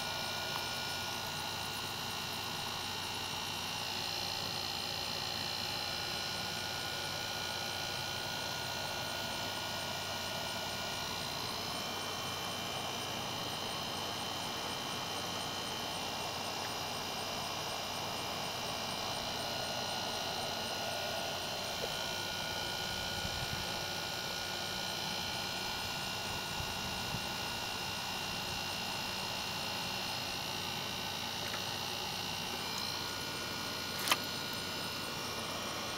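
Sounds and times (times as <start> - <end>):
mechanical hum with tones: 0.0 - 35.9.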